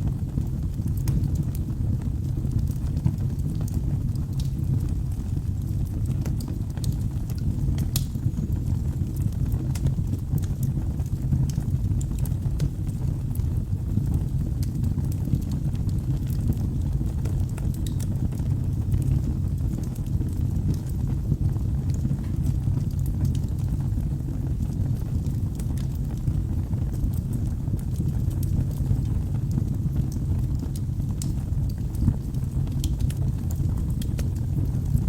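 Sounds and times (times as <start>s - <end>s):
fire crackling and popping: 0.0s - 35.0s
fire rumbling: 0.0s - 35.0s.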